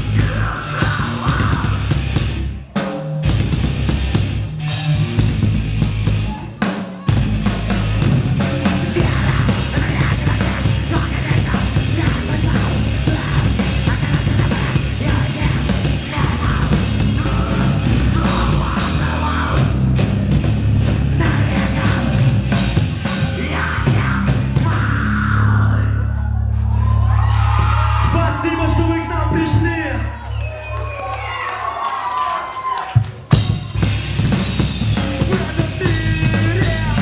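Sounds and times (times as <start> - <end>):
rock band playing live: 0.0 - 26.2, 33.0 - 37.0
pounding drum kit: 0.0 - 30.1, 32.5 - 37.0.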